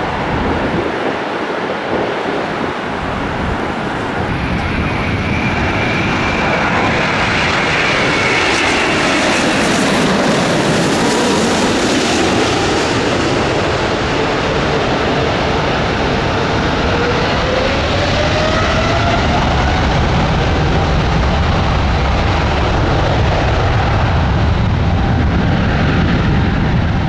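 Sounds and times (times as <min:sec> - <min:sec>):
high jet whine: 0:00.0 - 0:27.0
jet airliner engine rush: 0:00.0 - 0:27.0.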